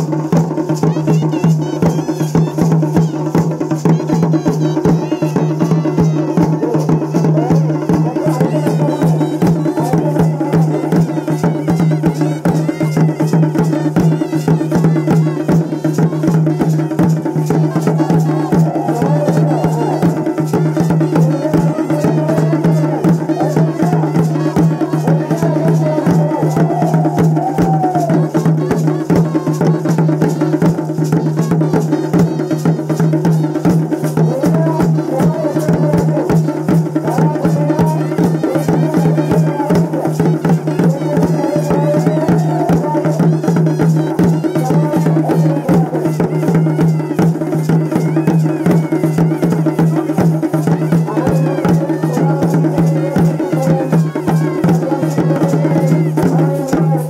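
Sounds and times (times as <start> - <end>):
barrel drums playing fast rhythm: 0.0 - 57.0.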